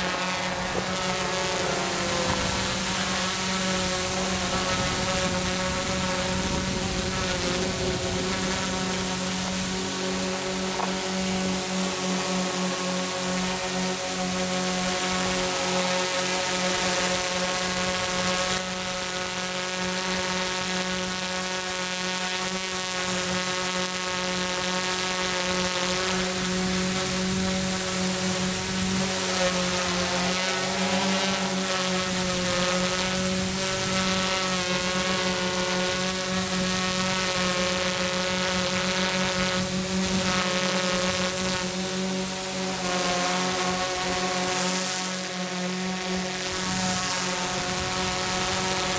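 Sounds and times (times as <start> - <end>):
quadcopter motors buzzing: 0.0 - 48.9.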